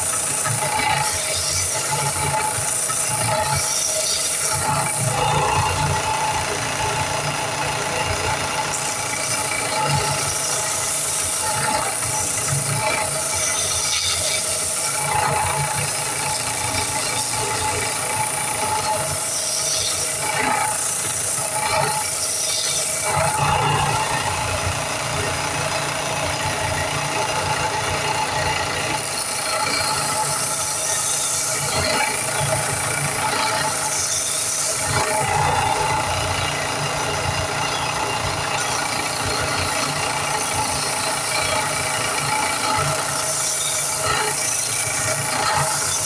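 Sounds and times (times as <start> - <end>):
power tool hissing and humming: 0.0 - 46.0.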